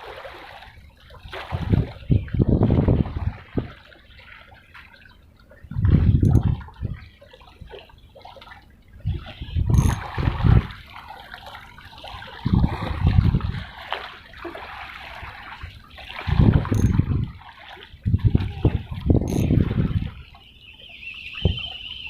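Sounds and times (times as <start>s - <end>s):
seawater sloshing and lapping: 0.0s - 22.0s
trickling wash: 0.0s - 22.0s.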